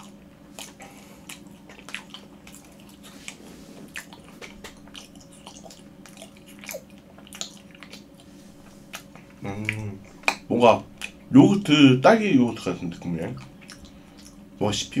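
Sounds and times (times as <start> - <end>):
wet chewing mouth clicks: 0.0 - 11.3, 13.3 - 14.4.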